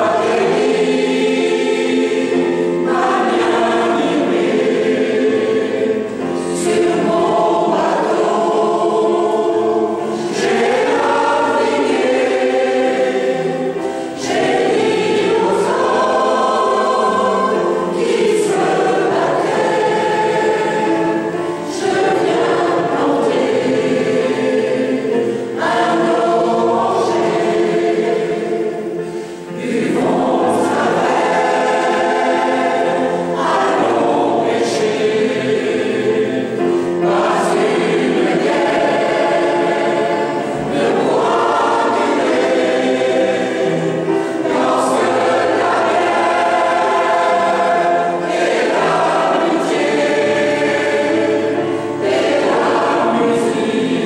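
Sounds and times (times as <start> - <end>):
digital piano accompaniment: 0.0 - 54.0
mixed choir singing: 0.0 - 54.0.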